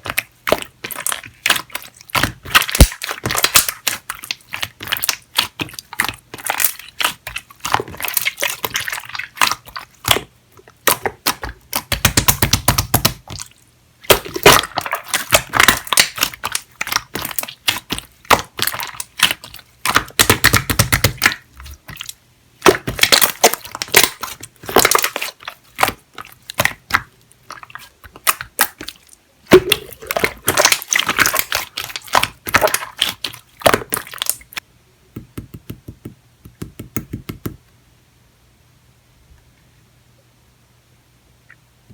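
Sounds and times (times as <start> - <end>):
slime squished by hand: 0.0 - 34.6.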